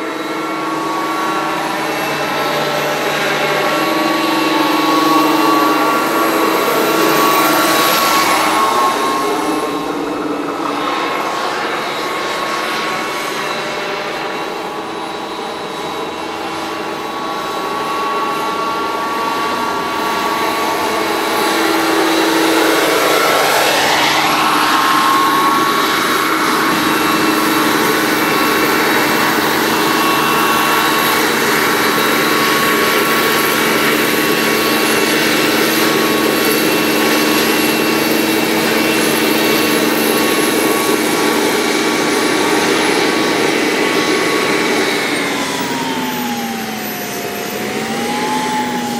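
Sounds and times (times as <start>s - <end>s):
helicopter rotor noise: 0.0s - 48.9s
model turbine high whine: 0.0s - 48.9s.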